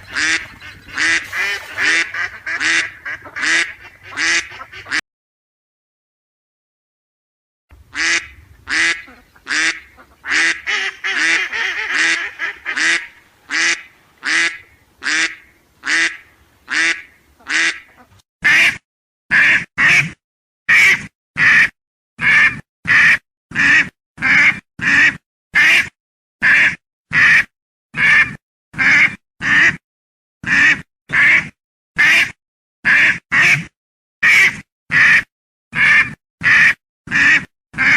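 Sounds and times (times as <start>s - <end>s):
duck quacking: 0.0s - 5.0s, 7.9s - 29.8s, 30.4s - 37.9s.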